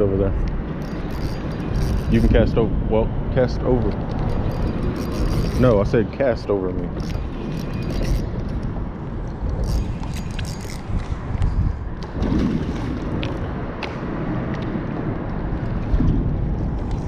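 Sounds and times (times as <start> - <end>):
water around boat: 0.0 - 17.0
wind rumble: 0.0 - 17.0.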